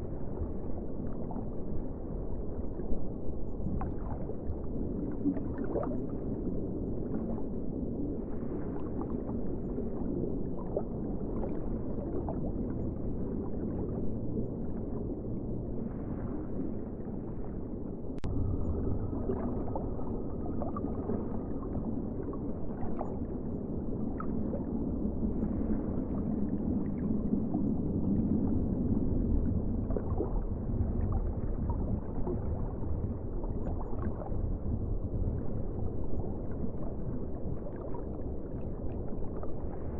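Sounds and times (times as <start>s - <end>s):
muffled ocean water rumble: 0.0s - 39.9s.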